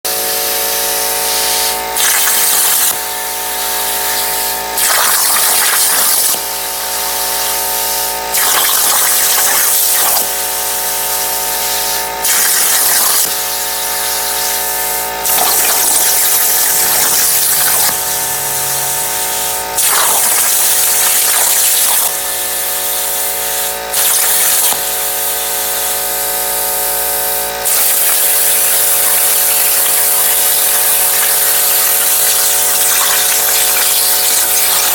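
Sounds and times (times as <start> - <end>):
plasma cutter arc hissing: 0.1 - 34.9
steady multi-tone hum: 0.1 - 34.9.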